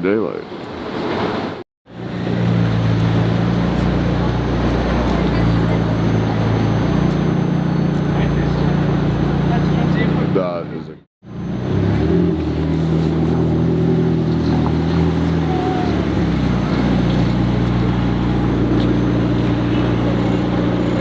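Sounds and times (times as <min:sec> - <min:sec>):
car engine running: 0:01.9 - 0:21.0.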